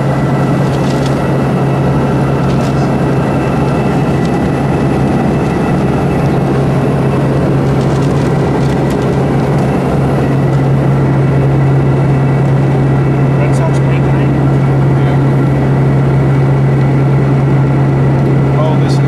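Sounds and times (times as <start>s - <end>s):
airplane engine drone in cabin: 0.0s - 19.0s
high-pitched whines: 0.0s - 19.0s.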